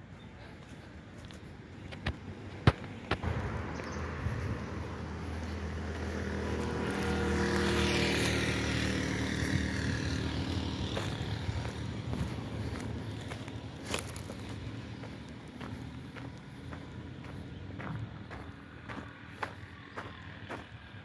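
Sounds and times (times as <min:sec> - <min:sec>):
motorcycle engine passing by: 0:03.1 - 0:21.0.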